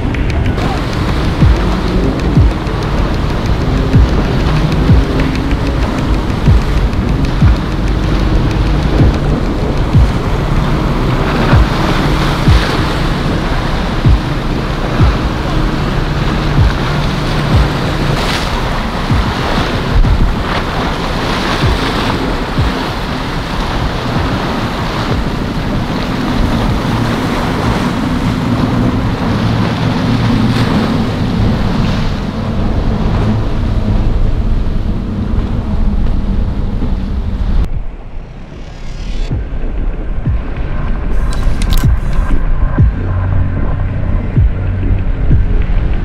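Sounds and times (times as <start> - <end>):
boat engine running: 0.0 - 46.0
waves breaking: 0.0 - 46.0
wind buffeting microphone: 0.0 - 46.0.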